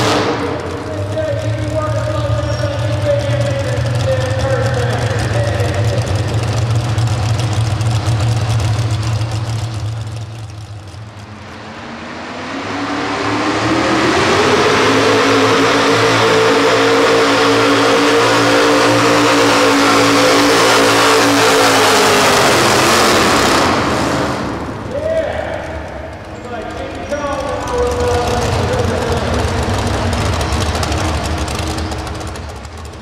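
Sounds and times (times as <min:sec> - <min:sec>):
tractor engine revving high: 0:00.0 - 0:33.0
tractor engine running: 0:00.0 - 0:33.0.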